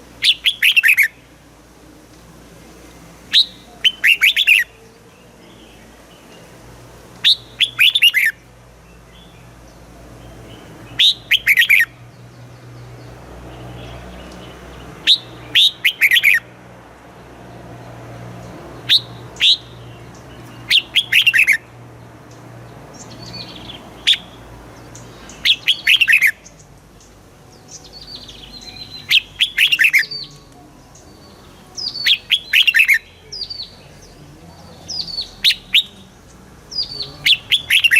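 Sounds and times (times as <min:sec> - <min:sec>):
bulbul singing: 0:00.0 - 0:37.9.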